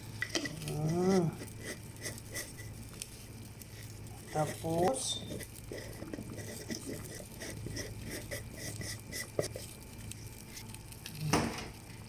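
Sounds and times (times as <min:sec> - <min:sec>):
pot simmering with soft ticking: 0:00.0 - 0:12.0
steady low hum: 0:00.0 - 0:12.0.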